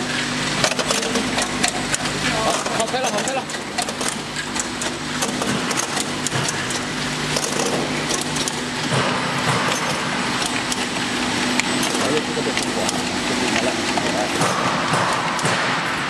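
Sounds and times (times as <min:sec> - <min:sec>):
machine motor hum: 0:00.0 - 0:16.0.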